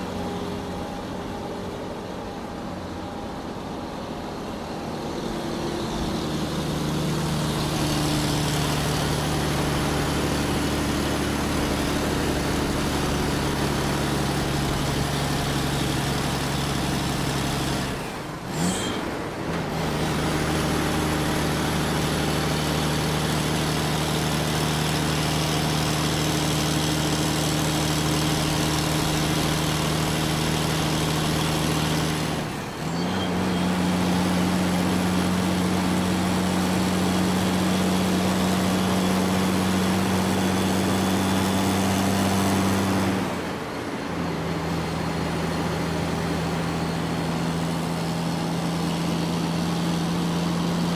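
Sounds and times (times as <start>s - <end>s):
truck engine humming: 0.0s - 50.9s.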